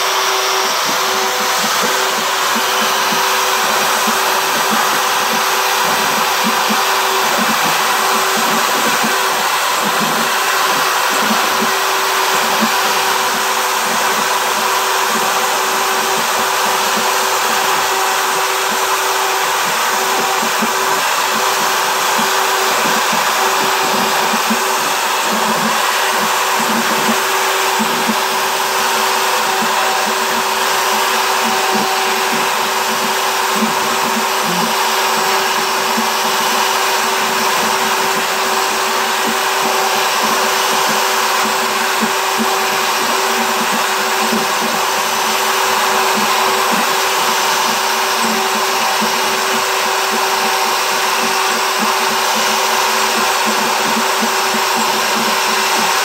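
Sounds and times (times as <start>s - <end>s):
router whining while engraving wood: 0.0s - 56.0s.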